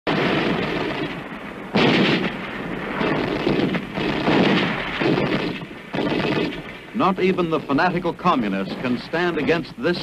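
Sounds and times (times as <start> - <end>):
heavy artillery booms: 0.1 - 10.0.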